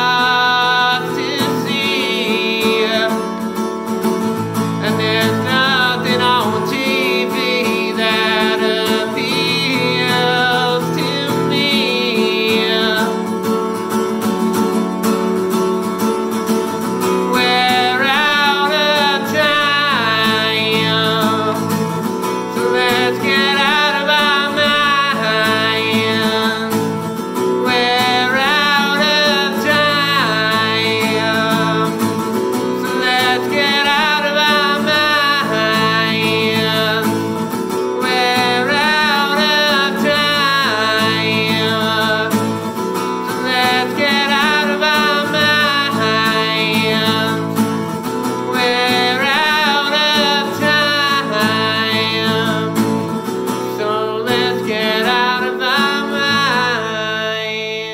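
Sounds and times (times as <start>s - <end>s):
man singing: 0.0s - 3.9s, 4.6s - 14.0s, 16.8s - 57.9s
strummed acoustic guitar: 0.0s - 57.9s.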